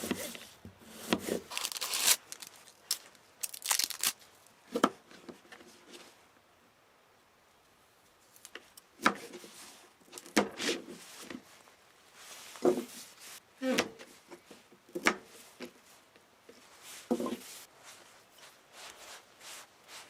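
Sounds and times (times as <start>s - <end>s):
rubbing and shuffling: 0.0s - 6.2s, 9.3s - 14.7s, 15.3s - 20.0s.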